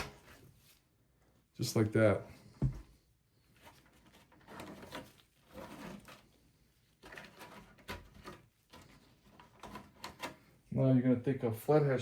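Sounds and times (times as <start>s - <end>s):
soft rustles of cables: 0.1s - 10.8s.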